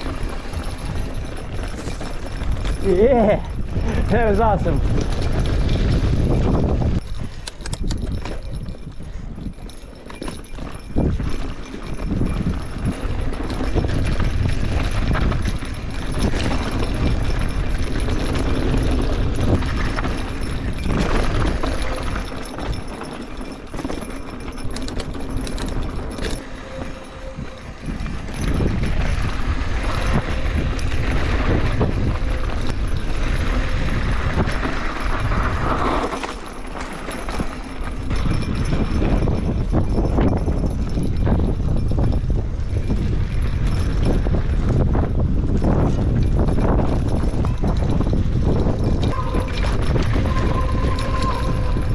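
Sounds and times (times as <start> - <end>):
bike clicks and rattles: 0.0 - 51.9
wind buffeting microphone: 0.0 - 51.9.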